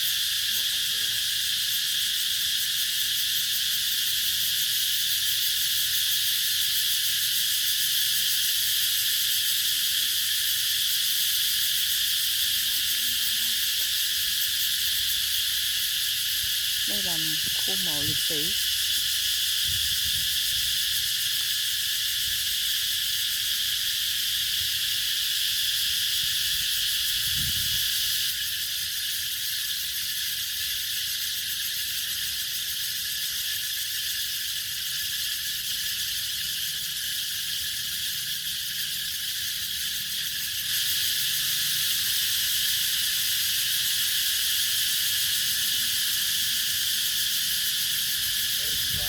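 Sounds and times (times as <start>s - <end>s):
cicadas buzzing: 0.0s - 49.0s.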